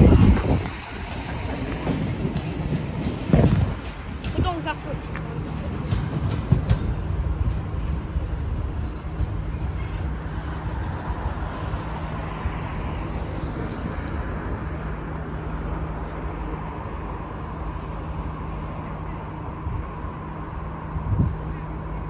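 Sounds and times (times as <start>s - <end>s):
wind buffeting microphone: 0.0s - 17.0s, 19.5s - 21.6s
freight train rolling past: 0.0s - 22.0s.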